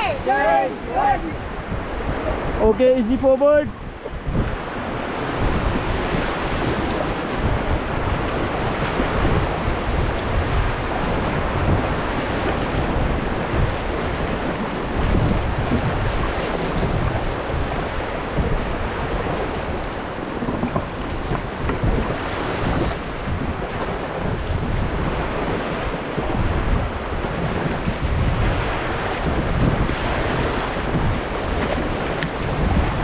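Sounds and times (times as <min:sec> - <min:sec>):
rushing river water: 0:00.0 - 0:33.0
wind buffeting microphone: 0:00.0 - 0:33.0.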